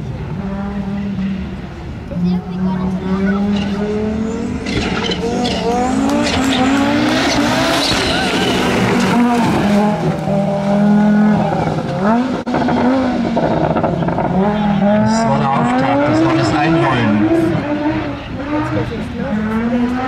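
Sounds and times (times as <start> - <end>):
car engine revving hard: 0.2 - 20.0.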